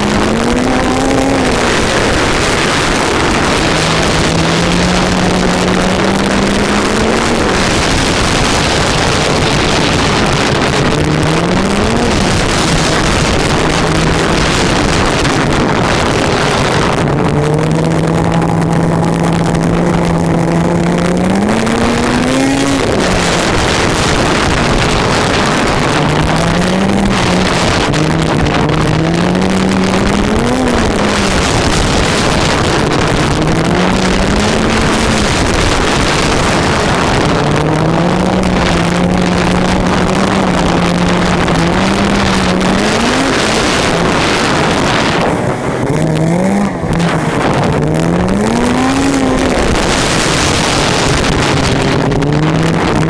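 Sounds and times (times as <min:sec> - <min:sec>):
rushing noise: 0:00.0 - 0:53.0
snowmobile engine running: 0:00.0 - 0:53.0.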